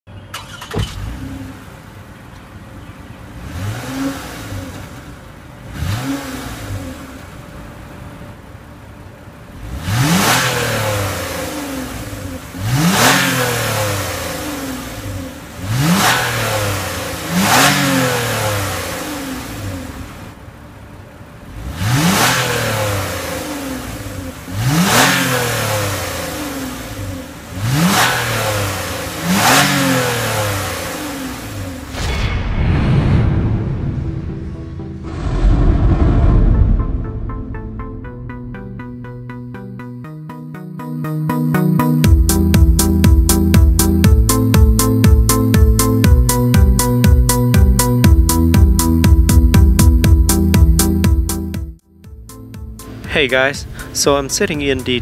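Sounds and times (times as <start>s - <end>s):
car engine revving: 0.3s - 8.4s, 9.4s - 32.1s, 33.1s - 51.7s, 52.4s - 55.0s.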